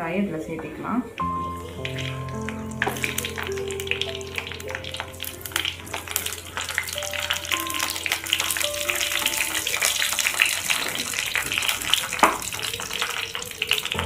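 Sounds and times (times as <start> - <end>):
vegetables sizzling in hot oil: 1.2 - 14.0.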